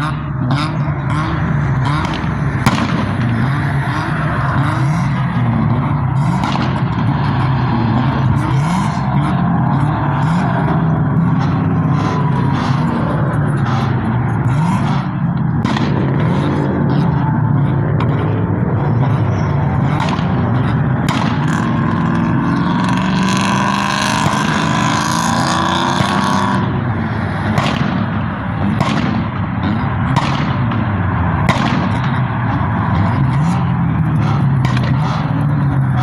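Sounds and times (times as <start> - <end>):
car engines revving: 0.0 - 36.0
exhaust pops: 0.4 - 36.0.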